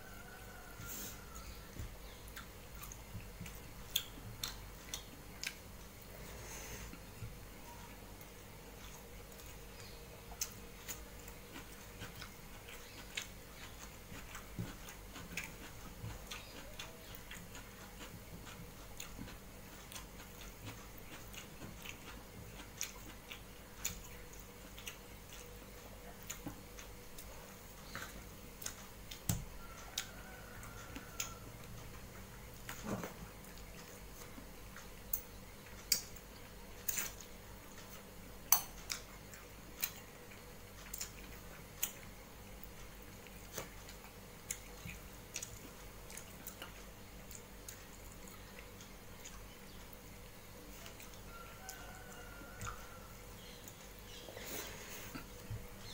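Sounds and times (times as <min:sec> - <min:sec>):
chewing: 0:00.0 - 0:55.9.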